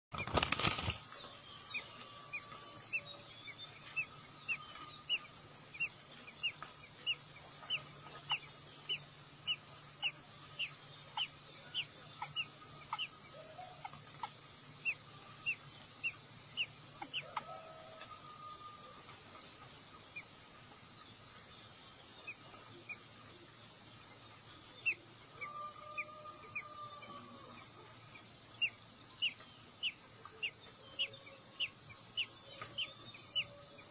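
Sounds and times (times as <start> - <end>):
high-pitched insect trill: 0.1 - 33.9.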